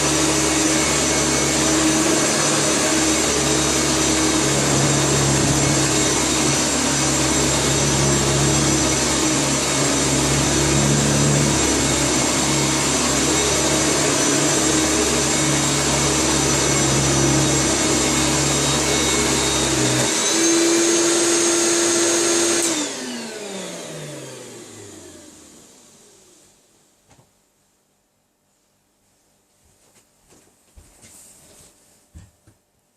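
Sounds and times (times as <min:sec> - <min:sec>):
vacuum cleaner running: 0:00.0 - 0:26.7.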